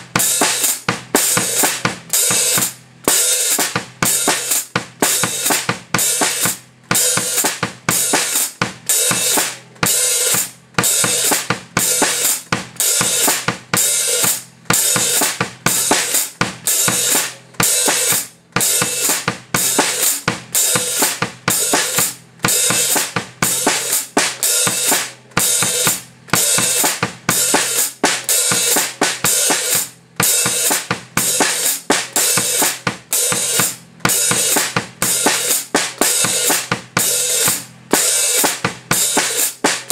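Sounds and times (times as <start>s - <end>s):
bass drum and snare strikes: 0.0s - 39.9s.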